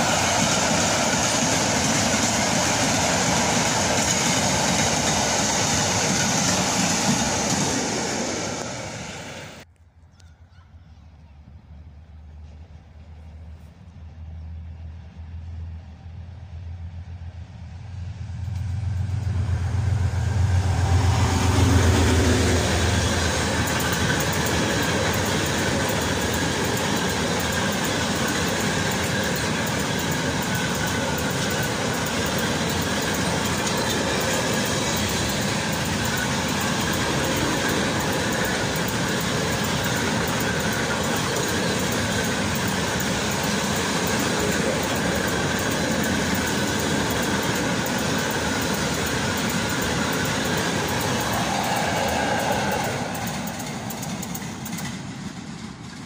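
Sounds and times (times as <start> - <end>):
freight wagons wheel-on-rail noise: 0.0 - 9.8, 10.6 - 56.0
train low hum: 0.0 - 56.0.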